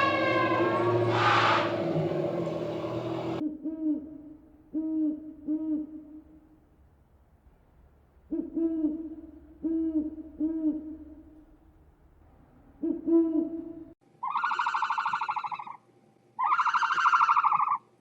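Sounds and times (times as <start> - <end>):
low hooting calls: 0.0 - 15.6.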